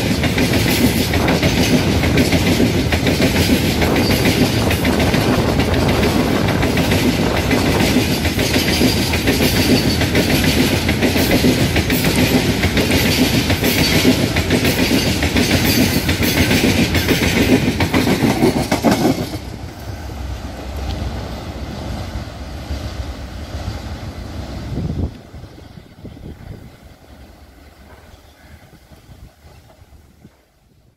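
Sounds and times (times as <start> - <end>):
train wheels clattering on rails: 0.0 - 22.9, 25.0 - 30.6
train rumble: 0.0 - 30.9.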